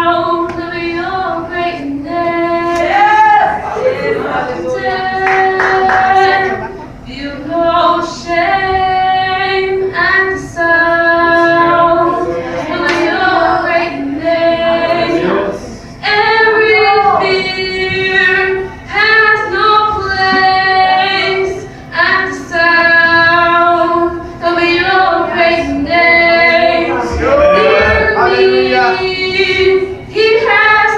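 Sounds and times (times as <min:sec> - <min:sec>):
women singing worship song: 0:00.0 - 0:30.9.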